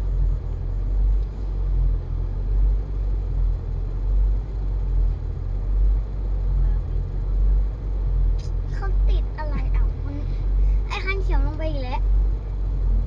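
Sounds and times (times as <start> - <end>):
off-road vehicle engine idling: 0.0 - 13.0.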